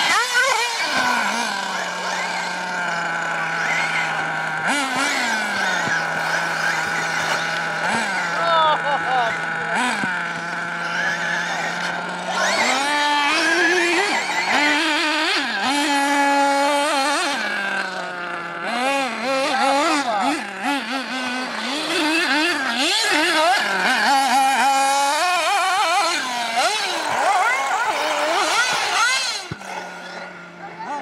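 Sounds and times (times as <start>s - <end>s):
radio-controlled car motors revving: 0.0s - 31.0s.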